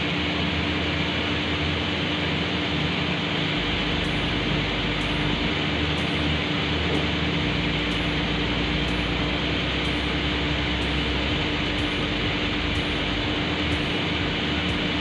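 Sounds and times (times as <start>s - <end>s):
electric water pump running: 0.0s - 15.0s.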